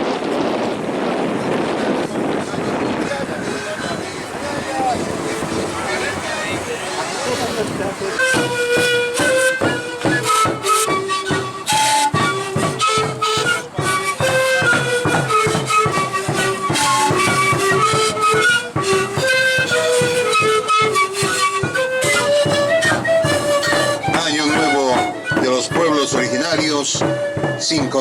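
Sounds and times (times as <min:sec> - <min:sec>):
flute-like wind melody: 0:00.0 - 0:28.0
busy percussion: 0:01.0 - 0:28.0.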